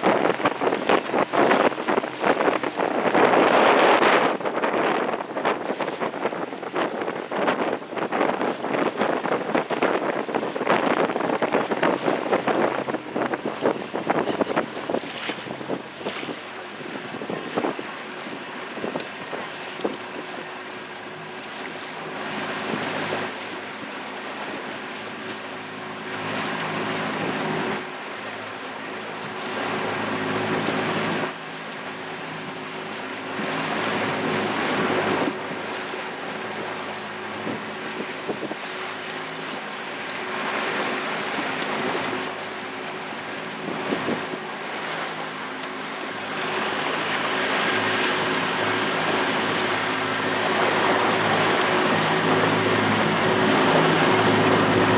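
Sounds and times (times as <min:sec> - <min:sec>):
wind on microphone: 0:00.0 - 0:25.3, 0:33.2 - 0:54.9
boat engine running: 0:00.0 - 0:54.9
water rushing past hull: 0:00.0 - 0:54.9.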